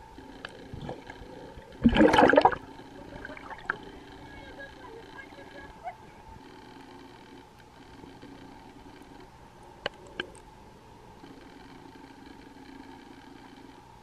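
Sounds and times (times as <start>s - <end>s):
muffled underwater engine hum: 0.0s - 14.0s.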